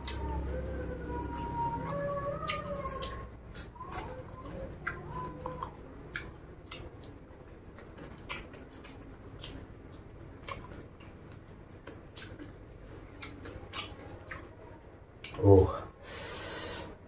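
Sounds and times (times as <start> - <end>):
person chewing: 1.3 - 15.4.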